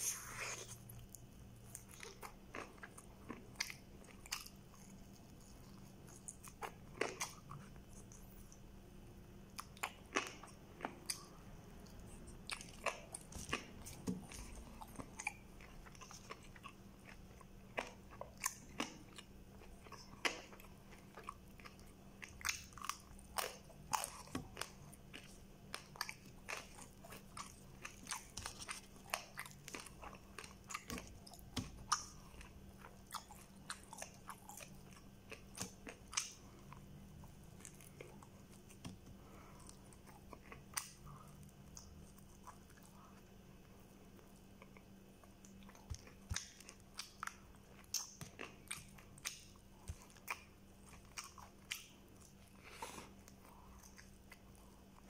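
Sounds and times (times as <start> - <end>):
person chewing crunchy food: 0.0 - 8.7, 9.4 - 55.0
faint steady hum: 0.0 - 55.0.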